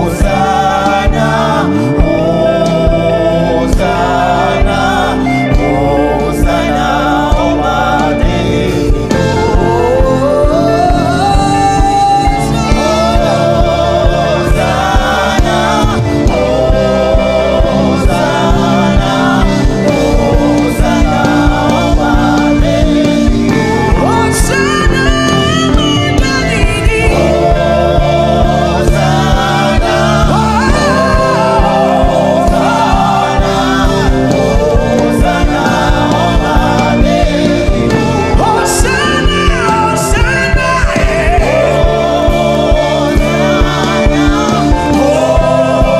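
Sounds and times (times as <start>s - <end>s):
gospel singing: 0.0s - 45.9s
keyboard backing with beat: 0.0s - 45.9s.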